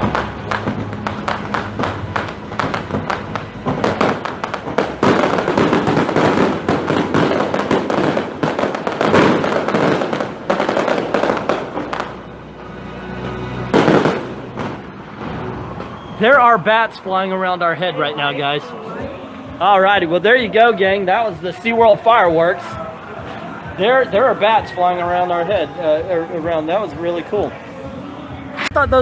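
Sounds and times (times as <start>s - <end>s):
fireworks bursts and crackling: 0.0s - 29.0s
show music: 0.0s - 29.0s.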